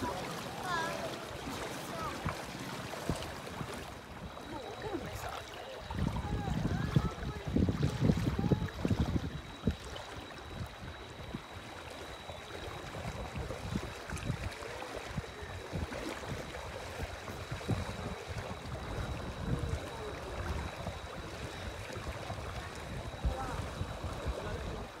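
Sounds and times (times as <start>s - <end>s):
water sloshing around boat: 0.0s - 25.0s
wind rumble on microphone: 0.0s - 25.0s.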